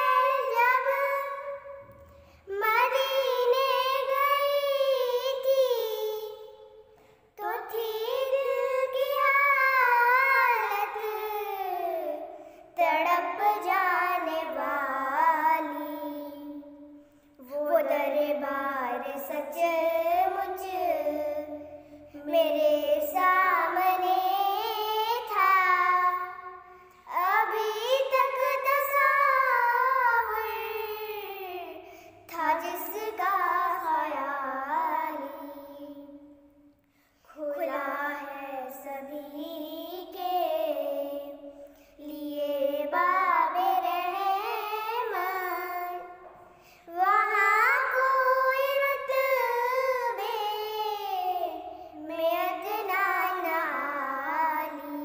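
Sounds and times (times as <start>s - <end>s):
girls singing unaccompanied: 0.0s - 6.5s, 7.4s - 16.7s, 17.4s - 36.2s, 37.4s - 55.0s.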